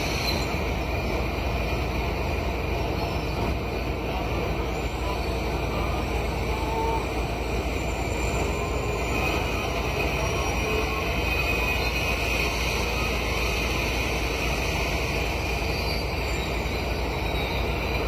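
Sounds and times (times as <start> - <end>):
diesel train rumbling: 0.0 - 18.0
train wheels squealing: 0.0 - 18.0.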